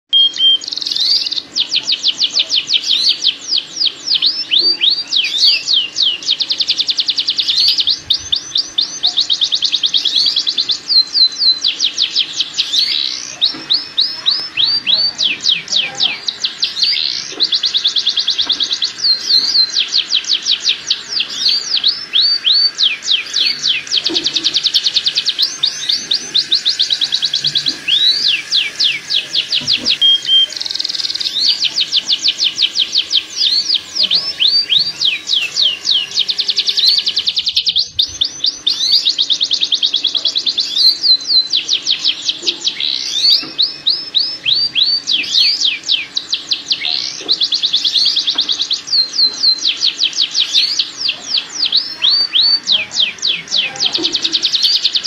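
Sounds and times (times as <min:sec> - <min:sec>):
canary singing trills: 0:00.1 - 0:55.0.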